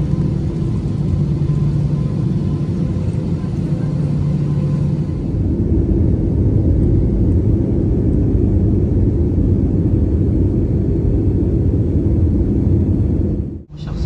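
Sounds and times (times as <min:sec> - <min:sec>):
jet cabin engine rumble: 0:00.0 - 0:14.0.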